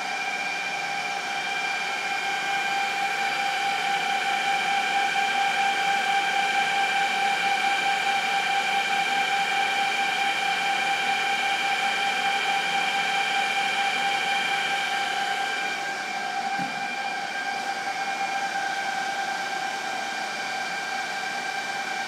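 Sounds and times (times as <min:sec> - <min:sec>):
server cooling fans whining: 0:00.0 - 0:22.0.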